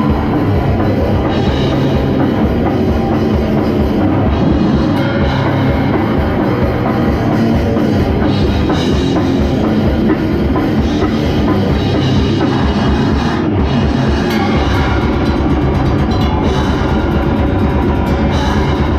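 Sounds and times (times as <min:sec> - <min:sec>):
live heavy metal band: 0:00.0 - 0:18.9.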